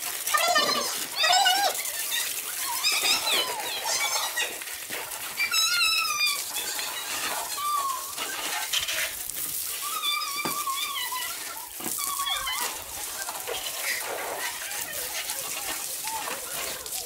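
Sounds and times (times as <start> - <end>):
water spraying from hose: 0.0 - 17.0.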